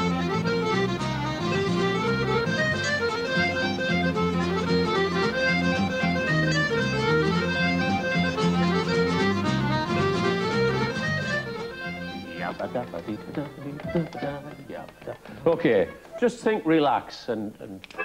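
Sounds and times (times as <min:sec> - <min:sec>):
smallpipes playing: 0:00.0 - 0:16.3
piano accordion: 0:00.0 - 0:16.4.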